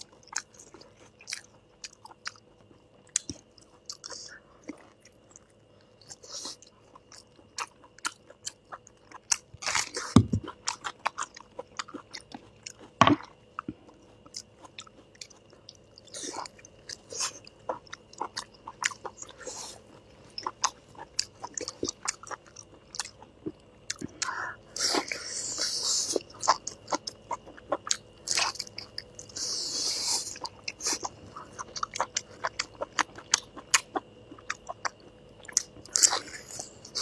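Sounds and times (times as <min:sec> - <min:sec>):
chewing meat close up: 0:00.0 - 0:24.3, 0:25.6 - 0:37.0.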